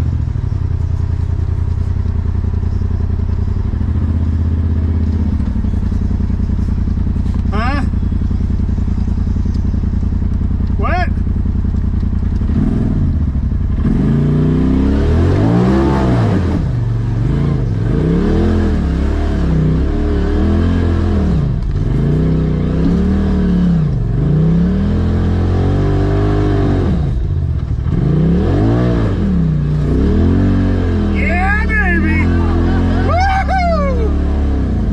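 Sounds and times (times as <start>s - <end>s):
utility vehicle engine revving: 0.0s - 34.9s.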